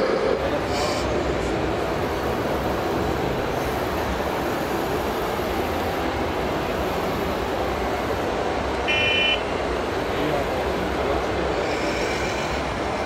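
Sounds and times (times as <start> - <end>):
busy exhibition hall din: 0.0 - 13.0.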